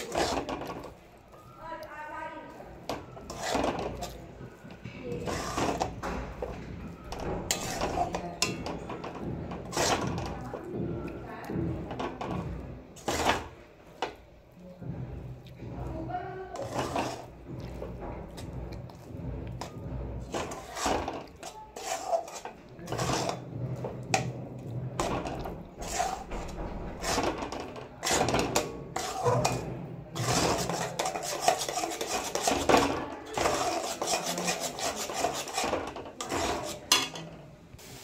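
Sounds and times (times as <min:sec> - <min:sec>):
metal spatula scraping pan: 0:00.0 - 0:01.5, 0:02.4 - 0:14.2, 0:16.4 - 0:37.4.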